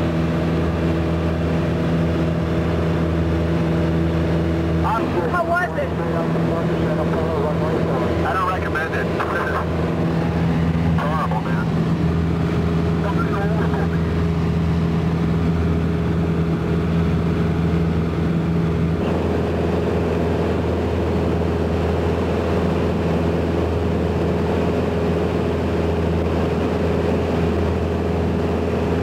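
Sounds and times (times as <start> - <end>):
small airplane engine droning: 0.0 - 29.0.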